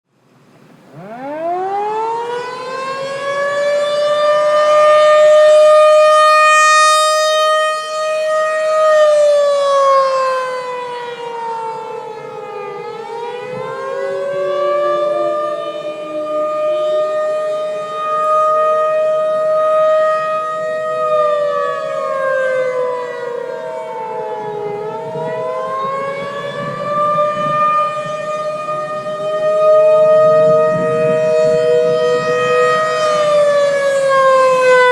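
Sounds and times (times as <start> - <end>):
warning siren wailing: 0.7 - 34.9.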